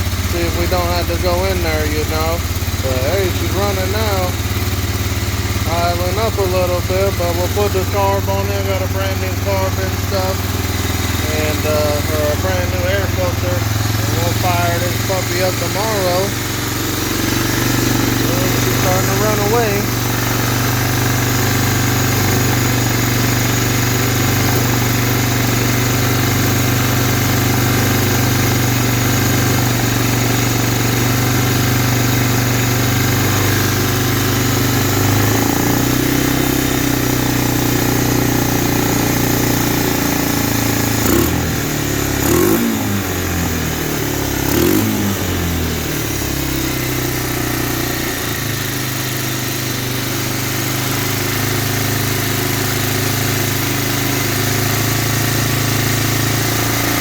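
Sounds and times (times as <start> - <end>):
engine idling and revving: 0.0 - 57.0.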